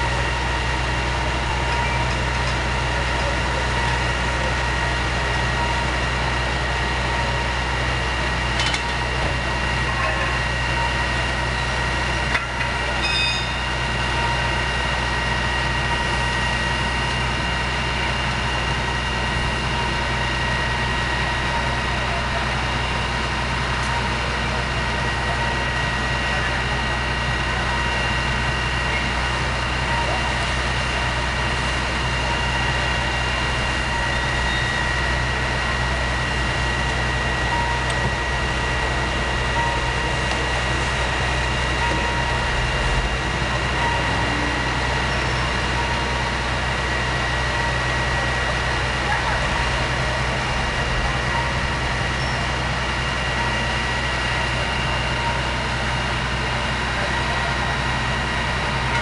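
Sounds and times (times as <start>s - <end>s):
engine rumble: 0.0s - 59.0s
high-pitched pump whine: 0.0s - 59.0s.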